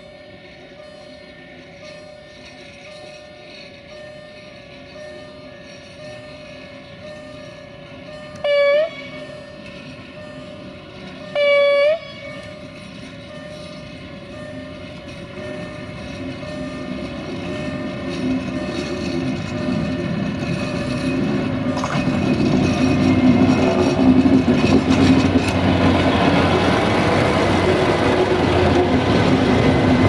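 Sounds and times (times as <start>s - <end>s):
rail vehicle diesel engine passing: 0.0s - 30.0s.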